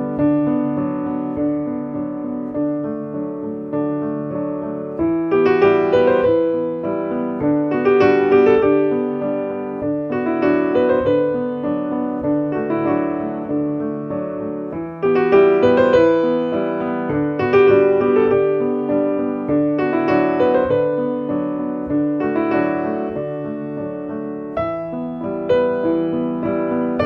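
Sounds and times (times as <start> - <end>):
gentle piano melody: 0.0 - 27.0.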